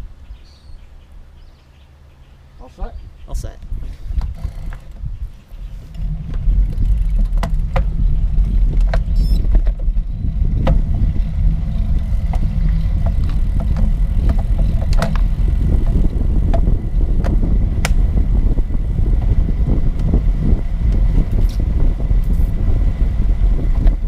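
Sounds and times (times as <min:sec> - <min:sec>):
bicycle riding rumble: 0:00.0 - 0:24.0
wind buffeting microphone: 0:02.6 - 0:24.0
bike clicks and rattles: 0:03.9 - 0:24.0.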